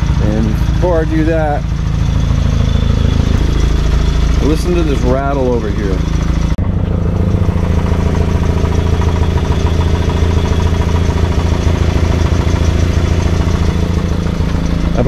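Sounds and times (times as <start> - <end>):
exhaust pipe rattling: 0.0 - 15.0
truck engine idling: 0.0 - 15.0.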